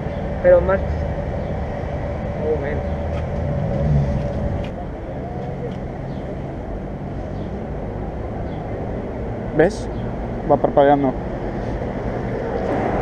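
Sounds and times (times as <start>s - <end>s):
loud vehicle passing: 0.0s - 13.0s
street traffic: 0.0s - 13.0s.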